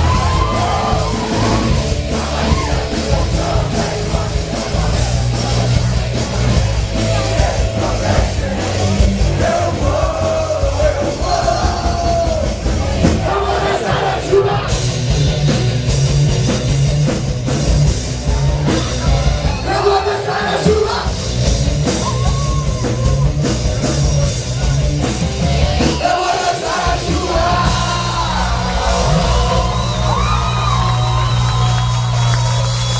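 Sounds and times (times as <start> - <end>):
live rock band playing: 0.0 - 32.9.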